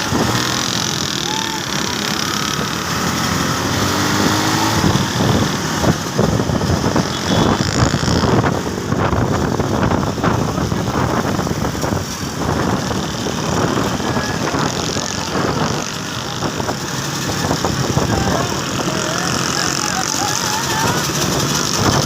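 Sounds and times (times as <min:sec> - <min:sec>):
engine rattling and knocking: 0:00.0 - 0:22.0
vehicle engine running: 0:00.0 - 0:22.0.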